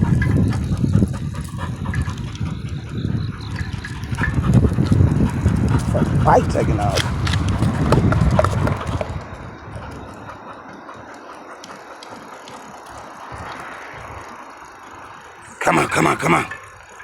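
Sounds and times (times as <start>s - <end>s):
wind rumble on microphone: 0.0s - 15.4s
bicycle rattling over trail: 0.0s - 17.0s.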